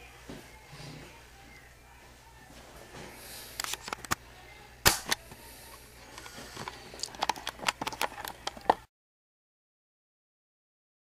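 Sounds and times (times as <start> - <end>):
faint room hum: 0.0 - 8.9.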